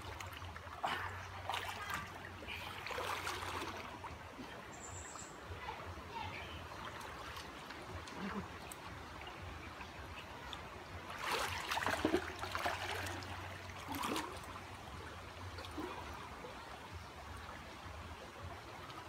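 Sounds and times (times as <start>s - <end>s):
stream burbling: 0.0s - 19.0s
water splashing and sloshing: 0.0s - 19.0s.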